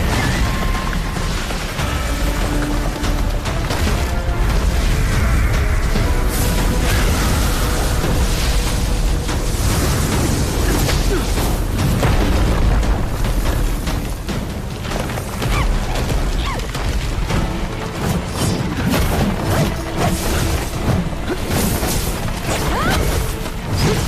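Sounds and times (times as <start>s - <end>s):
dramatic background music: 0.0s - 24.0s.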